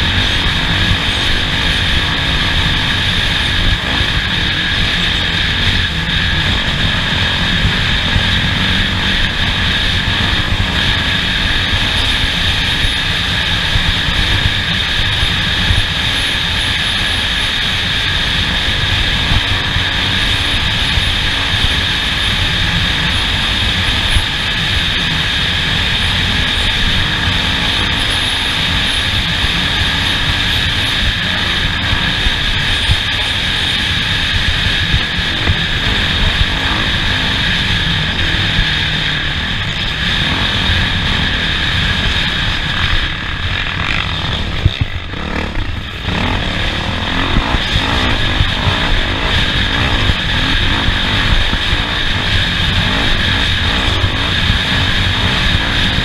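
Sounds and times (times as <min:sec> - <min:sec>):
high whine: 0:00.0 - 0:56.0
off-road vehicle engine rumble: 0:00.0 - 0:56.0.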